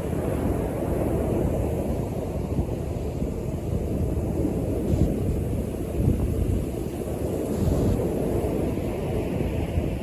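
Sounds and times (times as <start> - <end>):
surf rumbling: 0.0 - 10.0
wind buffeting microphone: 0.0 - 10.0.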